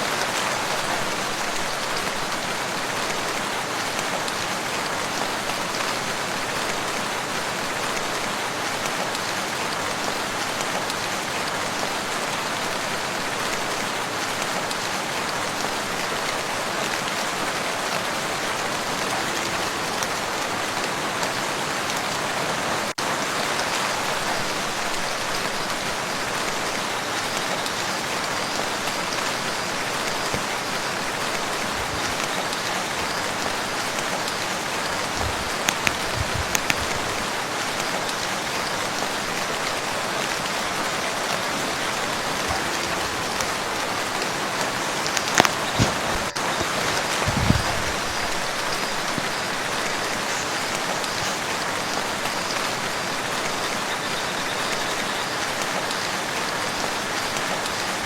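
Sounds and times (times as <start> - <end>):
rain falling on lake: 0.0 - 58.0.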